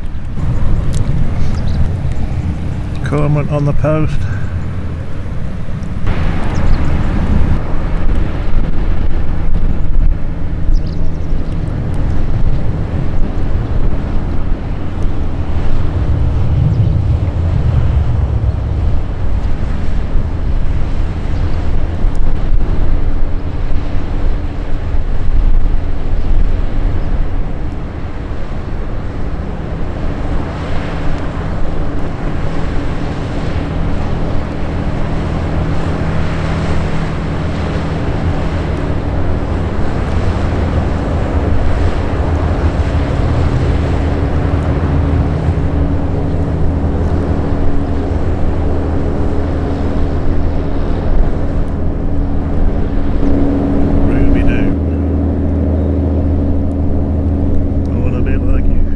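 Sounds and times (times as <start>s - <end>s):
boat diesel engine droning: 0.0s - 58.9s
water rushing from bow wave: 0.0s - 58.9s
wind buffeting microphone: 0.0s - 58.9s.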